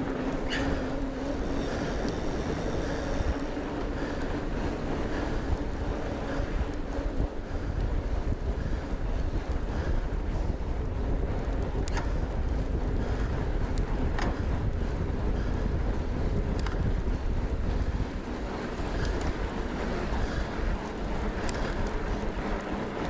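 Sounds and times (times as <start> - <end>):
bike clicks: 0.0 - 23.0
wind buffeting microphone: 0.0 - 23.0.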